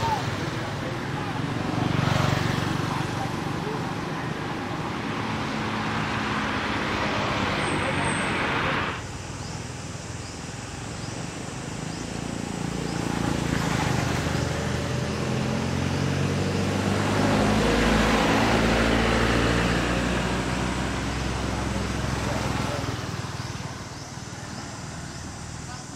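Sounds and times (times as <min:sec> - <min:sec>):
passing vehicle engine: 0:00.0 - 0:25.9.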